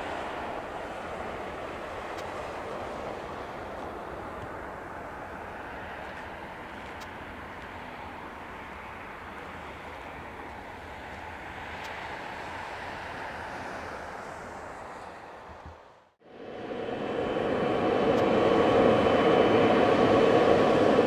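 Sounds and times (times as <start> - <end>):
jet engines during takeoff: 0.0 - 21.0.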